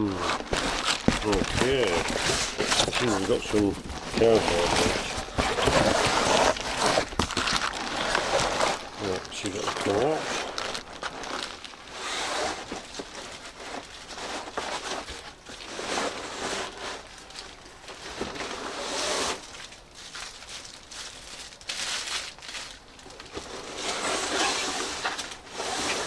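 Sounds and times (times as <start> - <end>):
cardboard and paper rustling: 0.0 - 26.0.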